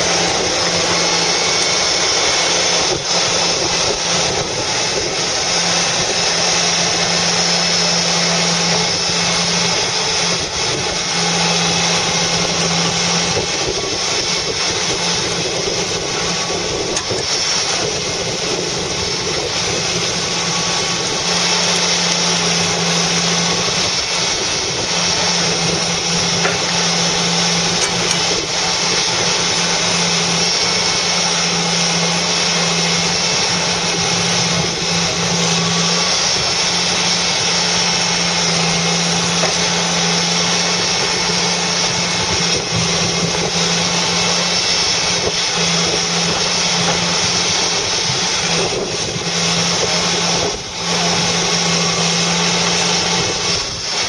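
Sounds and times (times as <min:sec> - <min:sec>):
diesel engine and hydraulics: 0:00.0 - 0:54.0.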